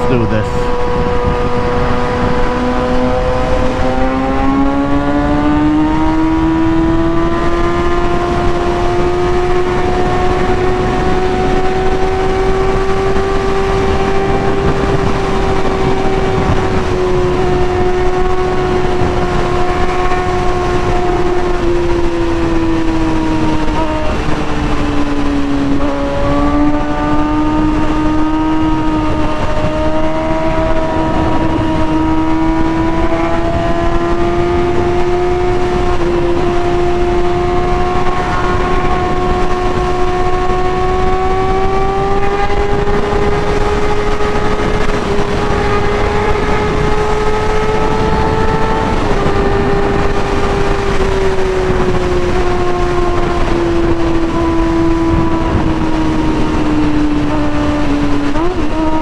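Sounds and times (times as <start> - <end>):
motorcycle engine at high revs: 0.0 - 59.0
steady rushing noise: 0.0 - 59.0.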